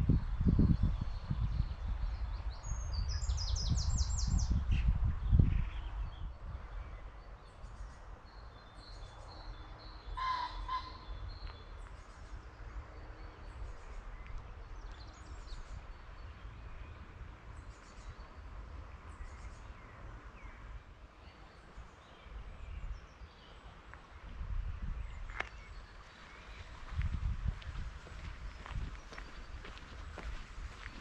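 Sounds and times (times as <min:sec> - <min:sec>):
small birds chirping: 0:00.2 - 0:24.3, 0:24.9 - 0:31.0.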